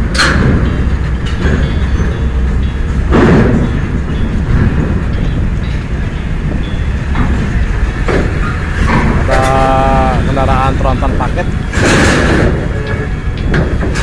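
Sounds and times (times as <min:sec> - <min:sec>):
truck engine rumble: 0:00.0 - 0:14.0
wheels clanking over metal plates: 0:00.0 - 0:14.0.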